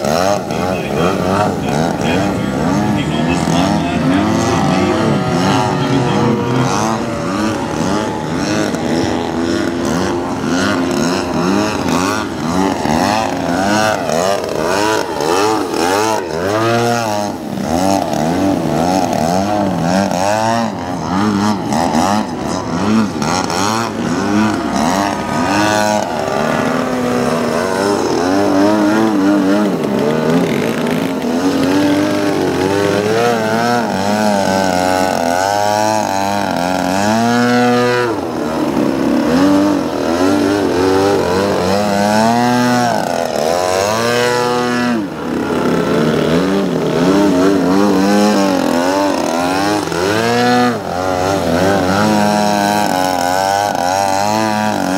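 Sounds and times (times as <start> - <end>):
model plane engine and propeller: 0.0 - 54.9.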